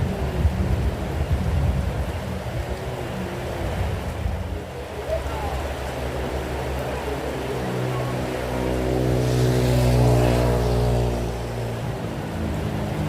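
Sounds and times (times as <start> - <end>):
steady rain: 0.0 - 13.0
vehicle passing on wet road: 0.0 - 13.0.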